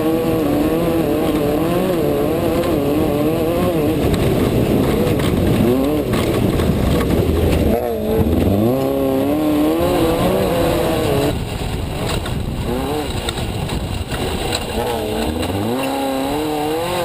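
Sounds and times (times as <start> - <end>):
constant ride rumbling: 0.0 - 17.0
engine revving: 0.0 - 17.0.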